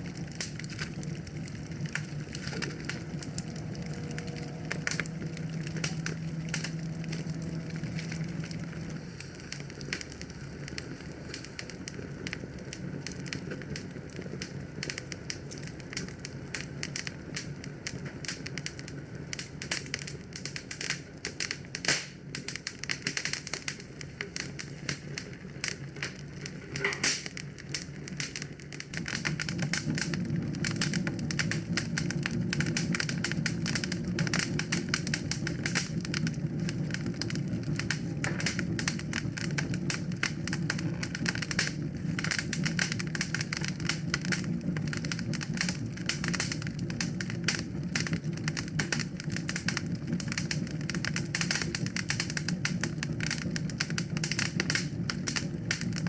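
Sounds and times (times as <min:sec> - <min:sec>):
fire popping and snapping: 0:00.0 - 0:56.0
wood fire crackling: 0:00.0 - 0:56.0.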